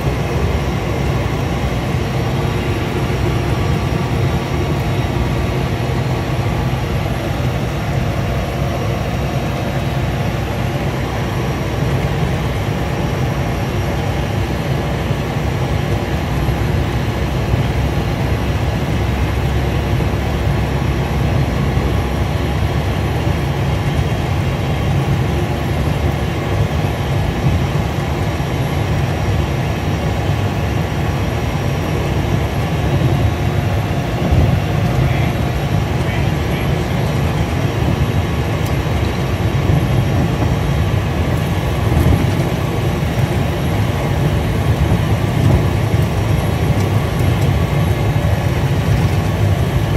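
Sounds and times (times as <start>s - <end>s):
turboprop engine drone: 0.0s - 49.9s.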